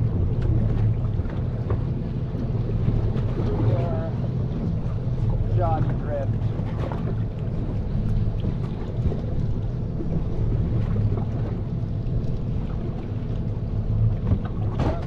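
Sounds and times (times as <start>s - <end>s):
boat engine idling: 0.0s - 15.0s
wind on microphone: 0.0s - 15.0s.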